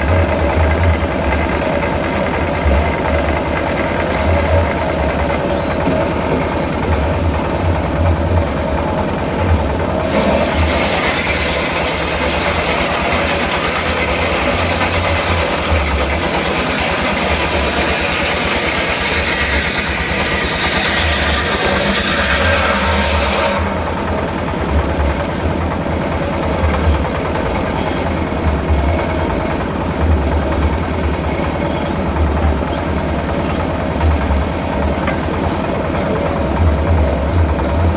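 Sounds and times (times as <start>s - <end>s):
engine pulsing low rumble: 0.0s - 37.9s.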